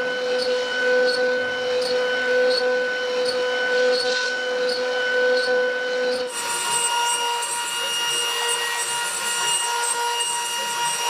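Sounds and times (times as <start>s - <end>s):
router spindle whine: 0.0s - 11.0s.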